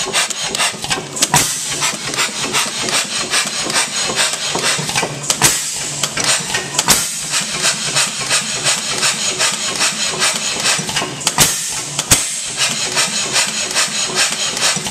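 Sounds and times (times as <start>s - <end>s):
engine bangs: 0.0s - 14.9s
gas engine clattering: 0.0s - 14.9s.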